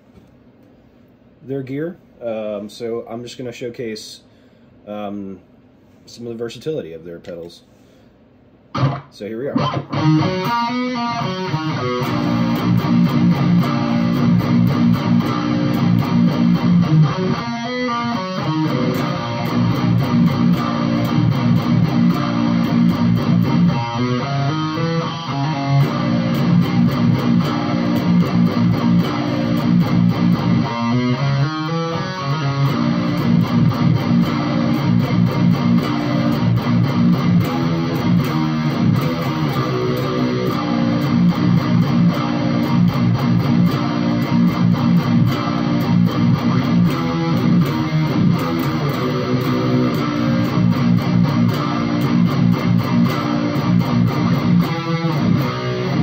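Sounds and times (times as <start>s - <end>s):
overdriven electric guitar riffs: 8.7s - 56.0s.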